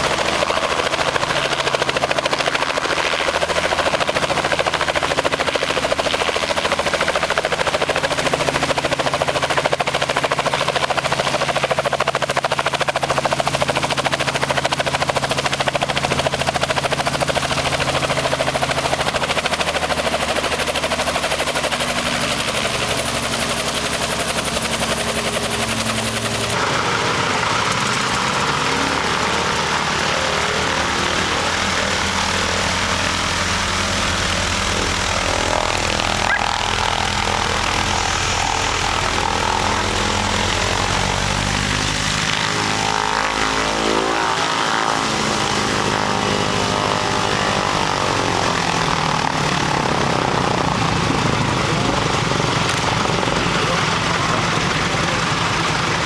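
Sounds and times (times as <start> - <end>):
helicopter idling: 0.0 - 56.0
radial aircraft engine running: 0.0 - 56.0.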